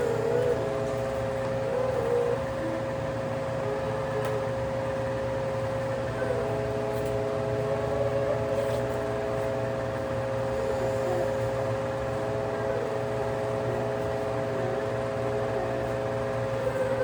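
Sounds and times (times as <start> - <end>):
electric fans humming: 0.0 - 17.0.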